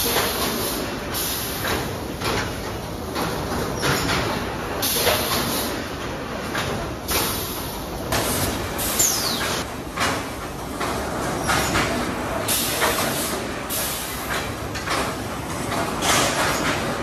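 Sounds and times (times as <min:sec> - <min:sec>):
packing machinery running: 0:00.0 - 0:17.0.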